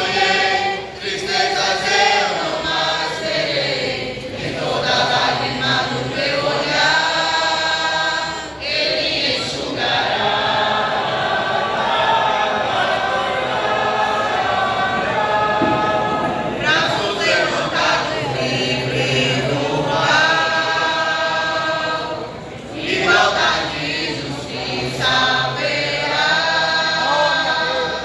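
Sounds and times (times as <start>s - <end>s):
vocal group singing in harmony: 0.0s - 28.0s.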